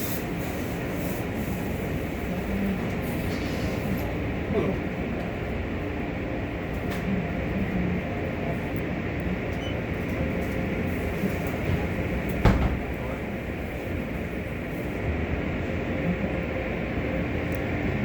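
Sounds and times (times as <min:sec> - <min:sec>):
car wash machinery rumbling: 0:00.0 - 0:18.0.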